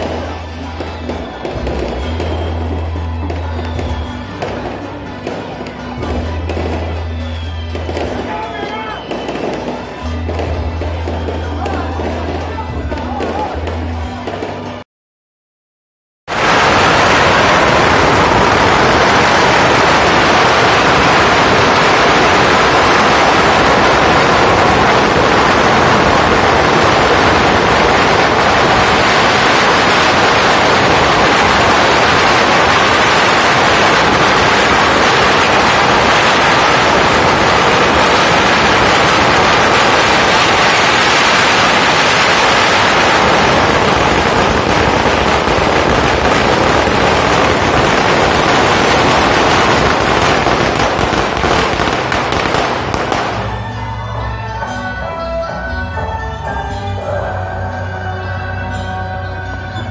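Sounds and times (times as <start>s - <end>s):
firecrackers crackling: 0.0s - 14.8s, 16.3s - 54.2s.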